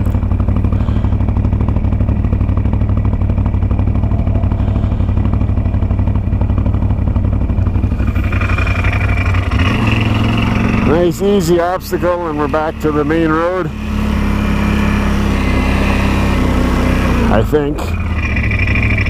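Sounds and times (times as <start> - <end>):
atv engine running: 0.0 - 19.0
high engine whine: 0.0 - 19.0.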